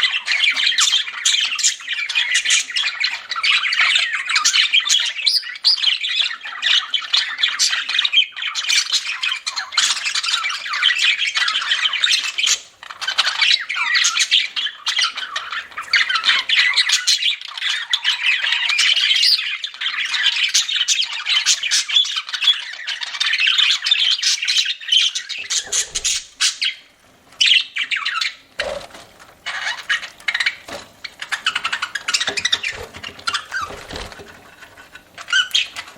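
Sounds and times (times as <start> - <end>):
budgerigars chattering and squawking: 0.0 - 35.9.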